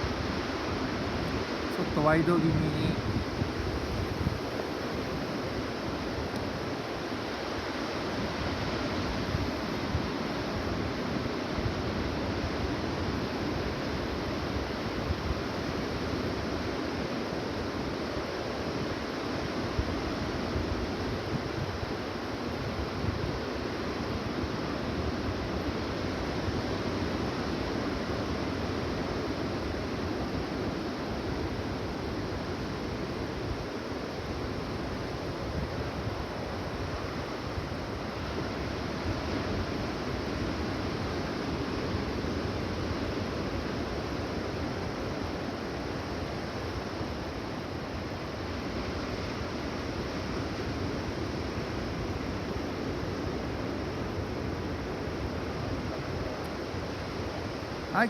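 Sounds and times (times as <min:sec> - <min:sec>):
ocean surf rushing: 0:00.0 - 0:58.0.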